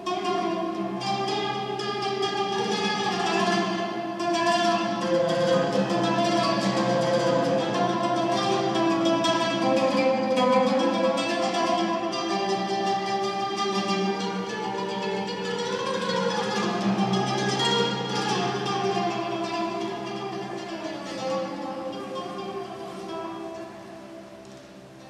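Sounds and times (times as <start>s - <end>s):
oud plucked runs: 0.0s - 25.0s.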